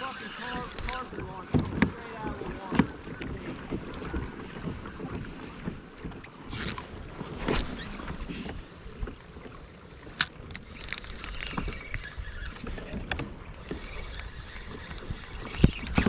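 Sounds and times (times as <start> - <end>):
water against kayak hull: 0.0 - 16.0.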